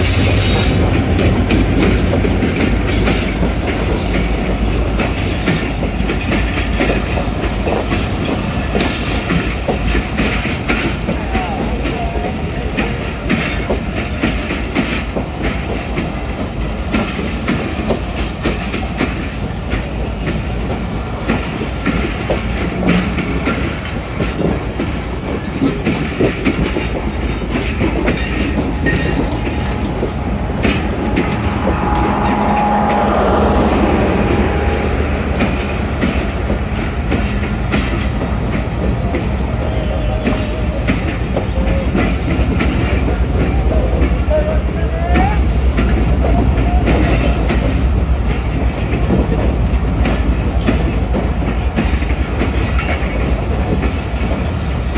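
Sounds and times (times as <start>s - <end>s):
train rumbling on track: 0.0s - 54.9s
wheels clattering on rails: 0.0s - 54.9s.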